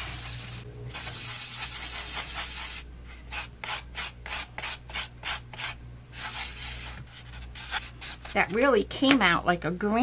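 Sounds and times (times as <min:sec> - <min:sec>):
palette knife scraping paint: 0:00.0 - 0:08.6.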